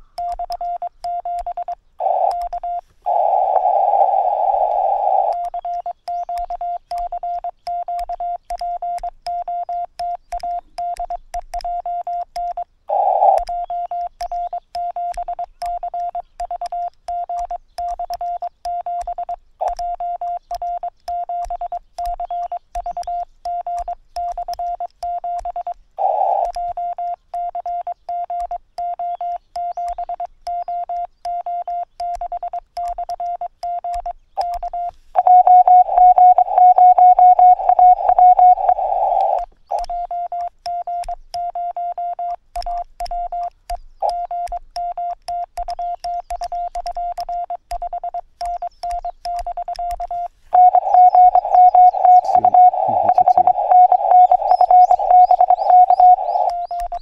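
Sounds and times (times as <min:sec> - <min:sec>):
higher morse code tone: 0:00.0 - 0:57.0
morse code beeps: 0:00.0 - 0:57.0.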